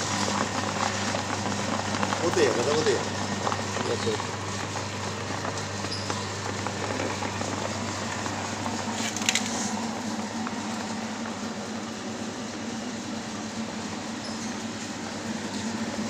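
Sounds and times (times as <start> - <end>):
pellet mill humming and whirring: 0.0 - 16.0.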